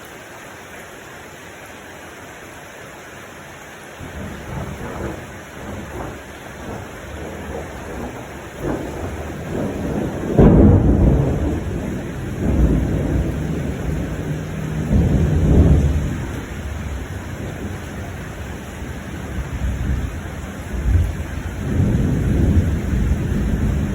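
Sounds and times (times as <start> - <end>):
steady rain: 0.0 - 23.9
thunder rumbling: 4.0 - 23.9.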